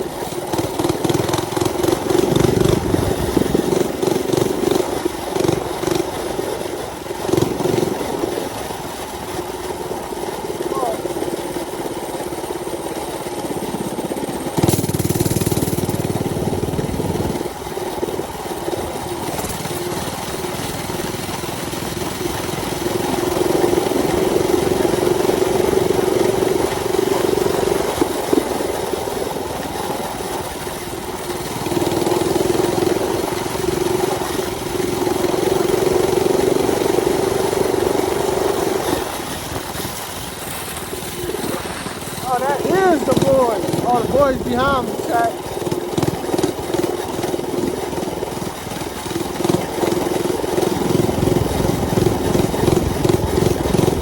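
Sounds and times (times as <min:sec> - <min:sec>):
mini bike engine revving: 0:00.0 - 0:54.0
wind buffeting microphone: 0:01.0 - 0:09.4, 0:14.9 - 0:54.0.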